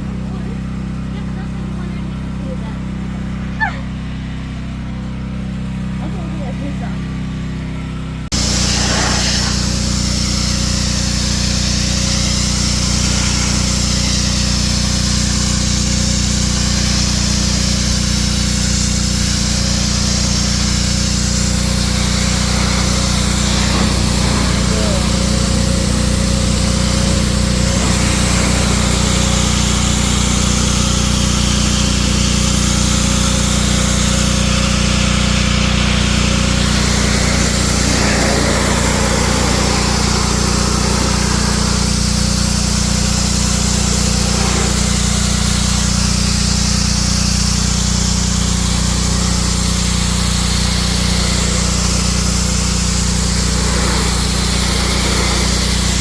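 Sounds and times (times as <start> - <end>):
motor humming steadily: 0.0 - 56.0.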